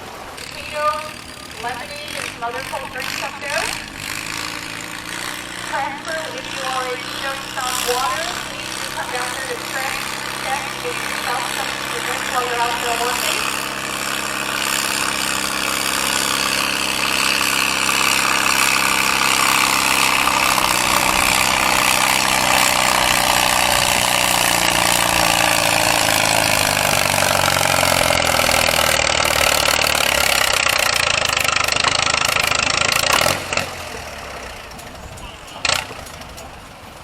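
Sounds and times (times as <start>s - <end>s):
tractor engine running under load: 0.0s - 37.0s.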